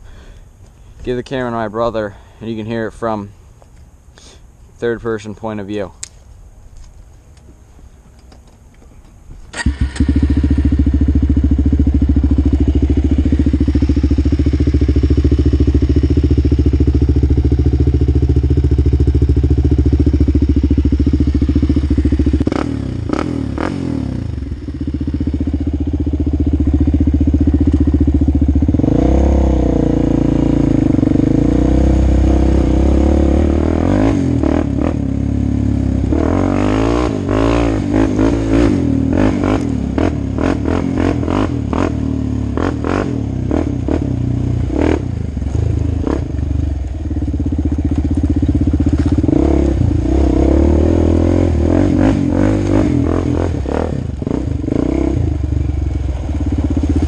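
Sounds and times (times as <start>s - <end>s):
quad engine idling and revving: 9.6s - 57.0s.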